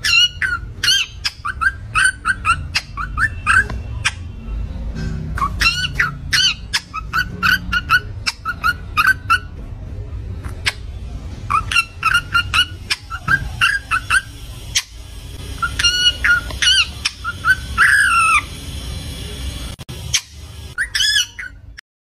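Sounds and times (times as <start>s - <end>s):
parakeet chirping: 0.0s - 21.8s.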